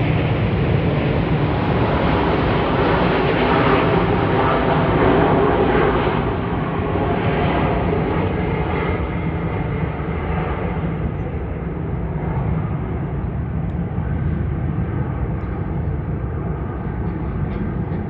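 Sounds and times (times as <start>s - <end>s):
jet engines rumbling overhead: 0.0s - 18.0s.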